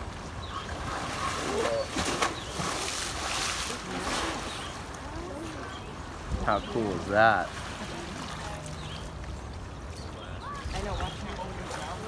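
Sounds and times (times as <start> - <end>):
faint distant voices: 0.4 - 12.0.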